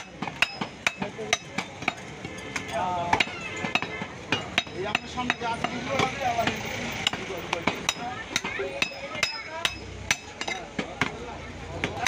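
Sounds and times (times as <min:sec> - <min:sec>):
cleavers chopping meat on wood: 0:00.0 - 0:12.0.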